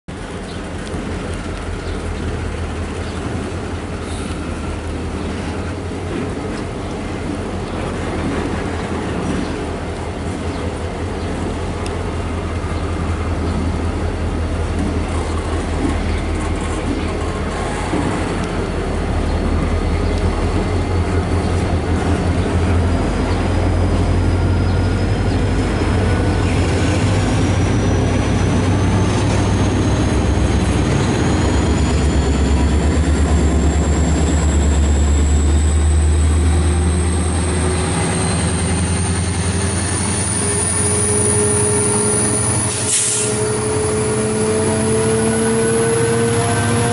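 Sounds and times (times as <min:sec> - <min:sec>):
diesel locomotive engine drone: 0:00.1 - 0:46.9
train wheels on rails: 0:00.1 - 0:46.9.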